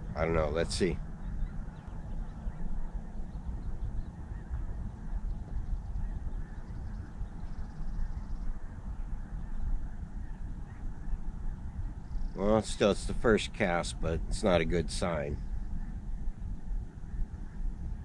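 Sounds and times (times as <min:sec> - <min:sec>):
faint calls: 0:00.0 - 0:18.0
wind rumbling on microphone: 0:00.0 - 0:18.0.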